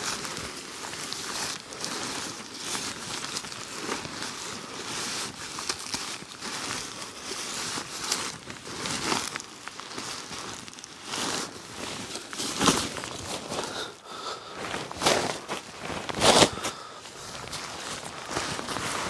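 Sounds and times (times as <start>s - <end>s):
rustling and crinkling gear: 0.0s - 19.0s.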